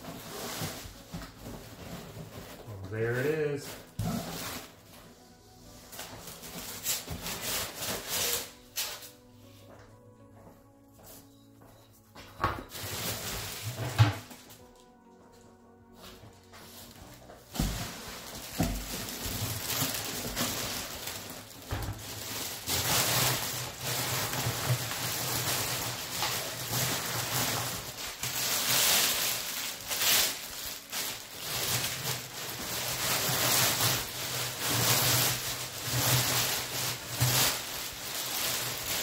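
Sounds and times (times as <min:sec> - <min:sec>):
plastic bag rustling: 0:00.0 - 0:09.2, 0:12.6 - 0:39.0.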